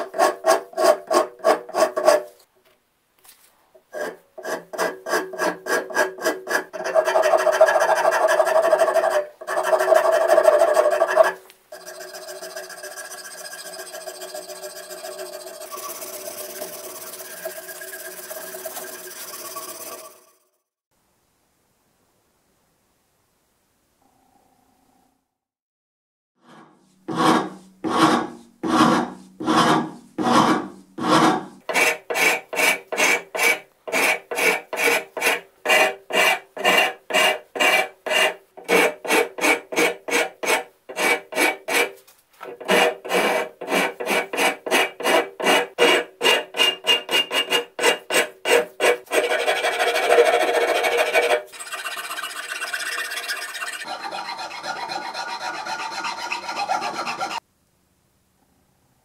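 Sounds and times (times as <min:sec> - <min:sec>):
hand file rasping on wood: 0:00.0 - 0:02.4, 0:03.9 - 0:20.0, 0:26.4 - 0:57.4.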